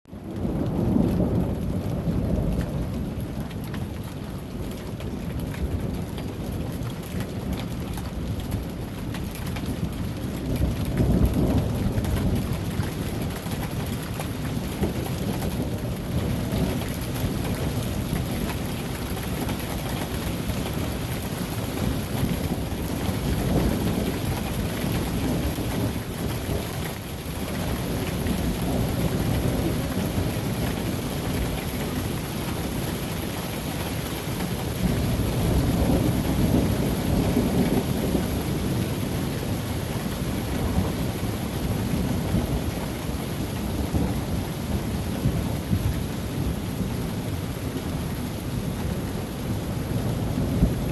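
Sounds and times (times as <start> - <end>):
steady rain falling: 0.1 - 50.9
thunder rumbling: 0.2 - 50.9.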